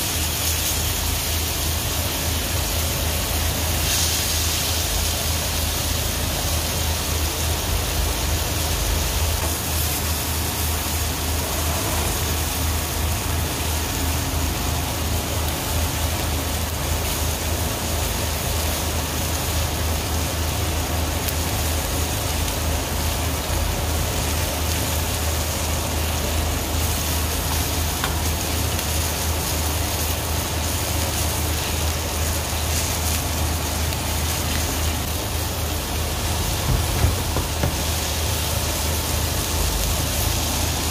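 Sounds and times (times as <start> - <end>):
steak sizzling in a pan: 0.0 - 40.9.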